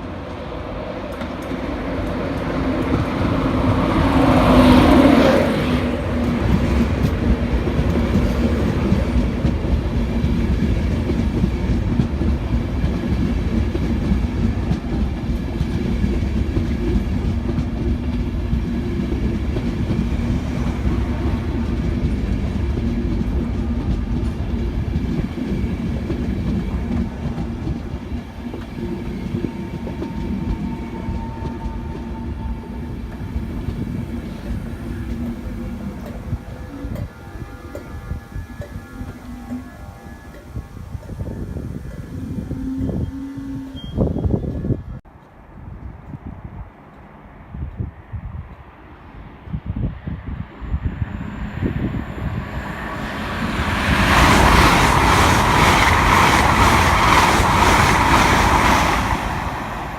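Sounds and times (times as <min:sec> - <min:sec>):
freight train rumbling and clattering: 0:00.0 - 0:59.9.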